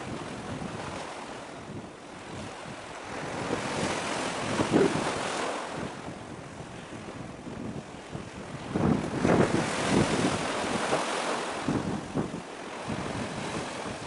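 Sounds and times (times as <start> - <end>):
waves lapping: 0.0 - 14.0
wind buffeting microphone: 0.0 - 14.0.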